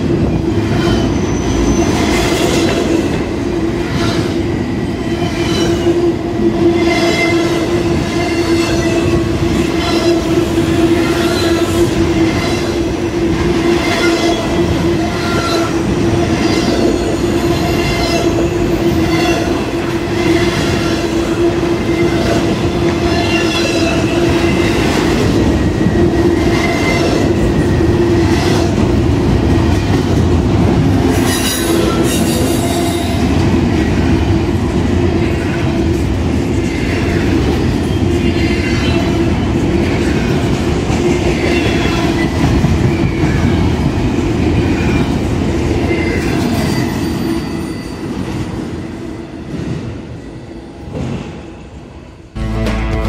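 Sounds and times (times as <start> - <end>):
train wheels rumbling on rails: 0.0 - 52.3.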